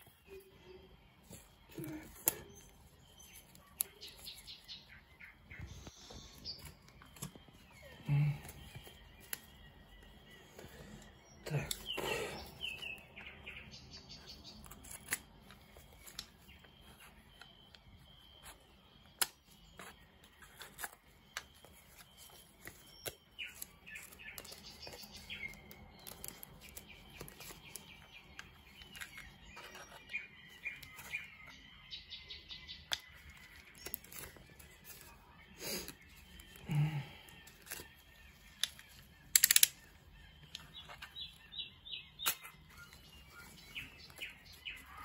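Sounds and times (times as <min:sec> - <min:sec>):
faint high chirping: 0:00.0 - 0:45.0.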